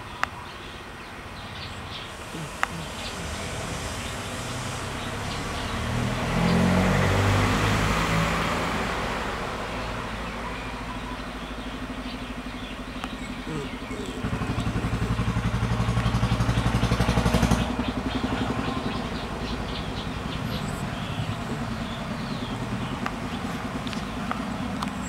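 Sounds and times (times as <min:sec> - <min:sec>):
vehicle passing by: 0:01.8 - 0:25.0.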